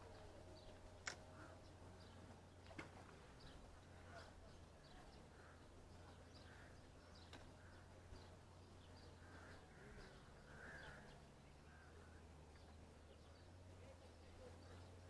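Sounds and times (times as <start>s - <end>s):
faint bird calls: 0.0s - 15.0s
low steady hum: 0.0s - 15.0s.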